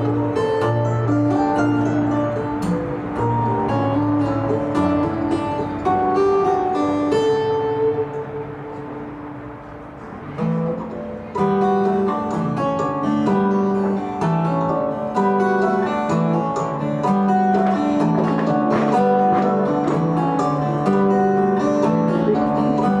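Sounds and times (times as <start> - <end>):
acoustic guitar instrumental: 0.0 - 23.0.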